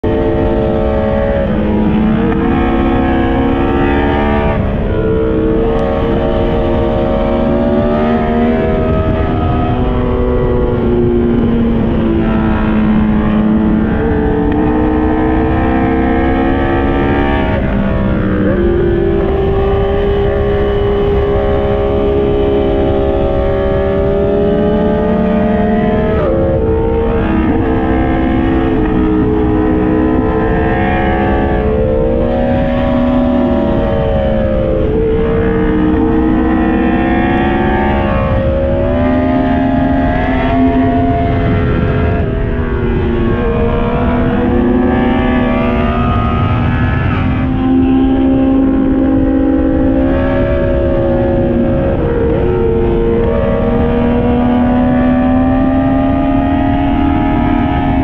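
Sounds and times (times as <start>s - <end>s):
motorcycle engine while riding: 0.0s - 58.0s
wind rush: 0.0s - 58.0s.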